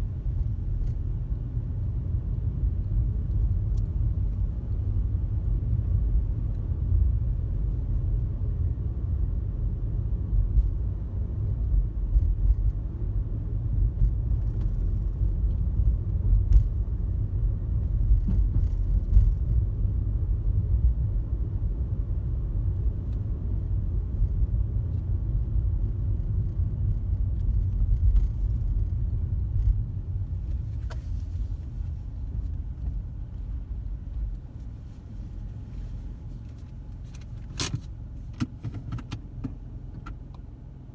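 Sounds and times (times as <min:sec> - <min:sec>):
road and tyre rumble in car: 0:00.0 - 0:40.9.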